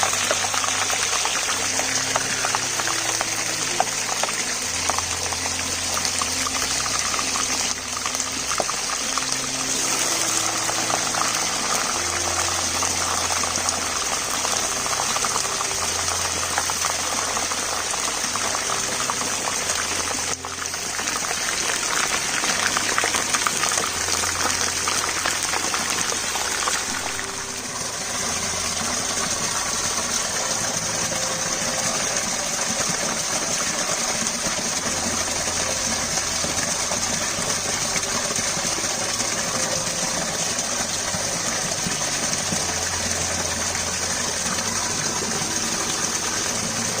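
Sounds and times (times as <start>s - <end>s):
rushing bubbling water: 0.0s - 47.0s.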